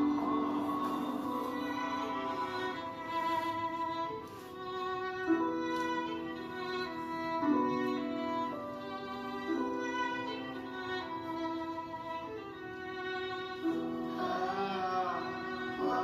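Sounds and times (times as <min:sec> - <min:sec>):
slow bowed violin music: 0:00.0 - 0:16.0.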